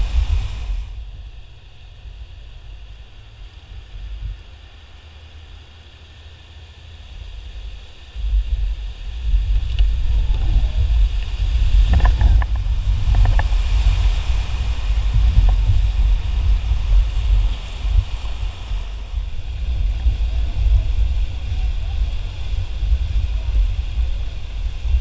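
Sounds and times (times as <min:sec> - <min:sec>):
wind buffeting microphone: 0:00.0 - 0:05.6, 0:06.9 - 0:25.0
whitewater rapids rushing: 0:00.0 - 0:25.0.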